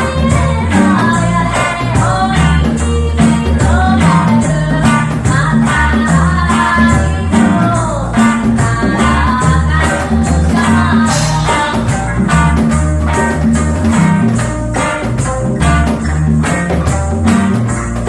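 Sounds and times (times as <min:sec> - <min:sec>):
heavy bass line: 0:00.0 - 0:18.0
tambourine-like percussion: 0:00.0 - 0:18.0.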